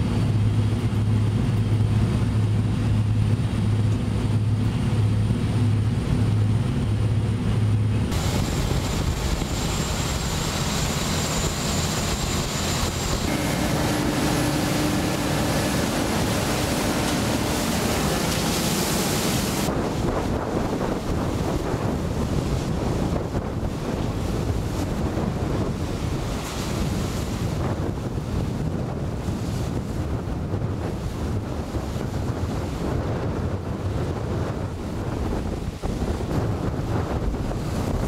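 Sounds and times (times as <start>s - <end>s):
boats running at speed: 0.0s - 38.0s
waves and spray rushing: 0.0s - 38.0s
wind buffeting microphone: 0.0s - 38.0s.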